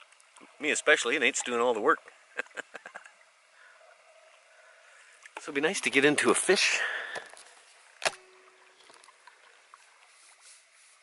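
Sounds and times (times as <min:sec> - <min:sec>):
paddle dripping and swishing: 0:00.0 - 0:11.0.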